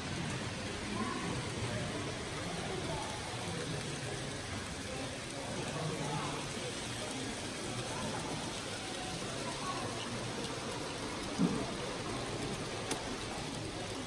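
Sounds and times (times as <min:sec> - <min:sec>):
model trains rolling hiss: 0:00.0 - 0:14.0.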